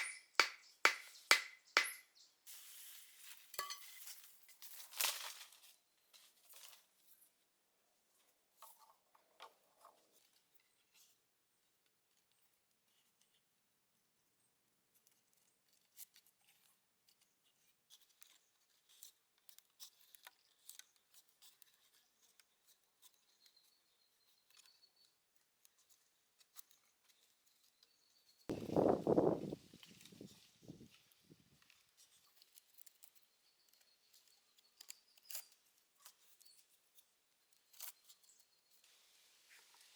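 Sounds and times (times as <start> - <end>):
faint clicks and scrapes: 2.5 - 28.6, 29.7 - 39.9.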